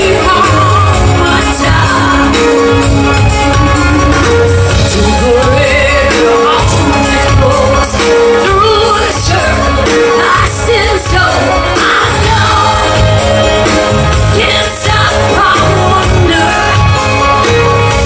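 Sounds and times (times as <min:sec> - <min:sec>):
rock band playing: 0:00.0 - 0:18.0
woman singing: 0:00.0 - 0:18.0.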